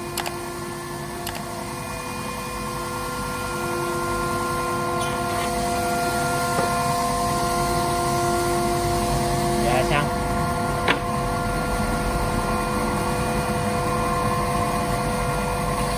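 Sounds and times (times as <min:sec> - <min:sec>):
workshop machinery whining hum: 0:00.0 - 0:15.9.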